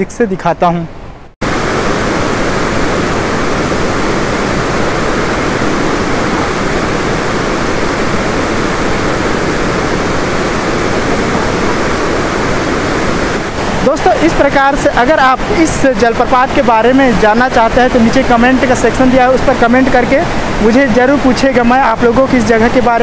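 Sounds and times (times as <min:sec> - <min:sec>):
waterfall roaring: 0:01.4 - 0:23.0.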